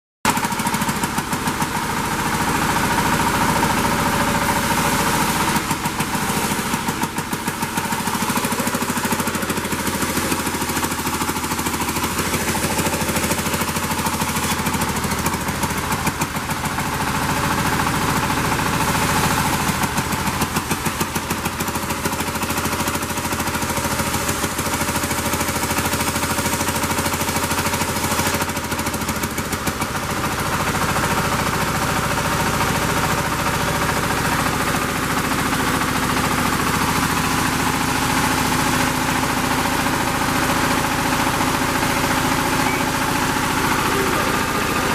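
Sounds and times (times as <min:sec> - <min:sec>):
band sawmill machinery running: 0:00.3 - 0:44.9.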